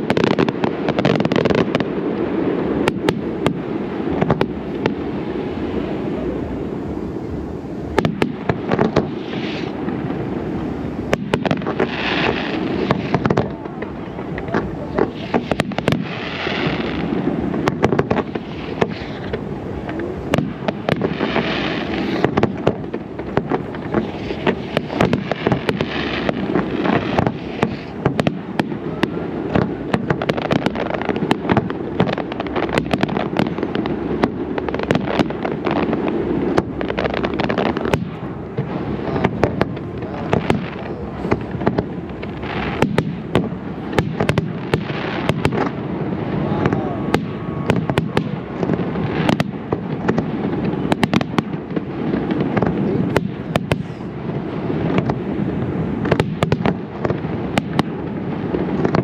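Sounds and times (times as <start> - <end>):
fireworks rumble and crackle: 0.0 - 59.0.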